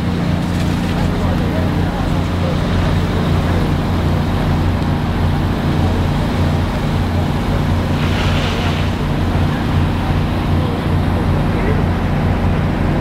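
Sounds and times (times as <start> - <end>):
fire truck engine rumbling: 0.0 - 13.0.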